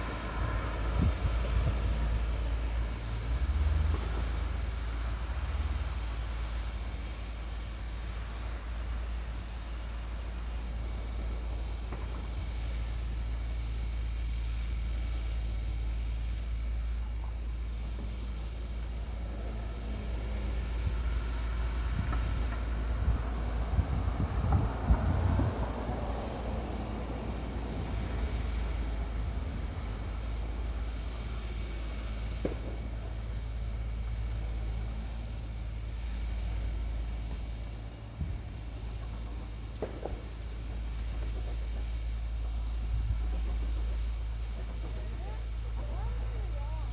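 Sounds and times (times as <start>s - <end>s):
distant engine running: 0.0s - 46.9s
low rumble: 0.0s - 46.9s.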